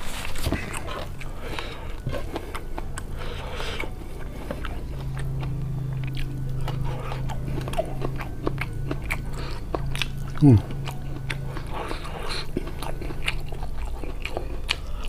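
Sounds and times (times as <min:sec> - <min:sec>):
low steady hum: 0:00.0 - 0:15.0
wet chewing with crunching: 0:00.0 - 0:15.0.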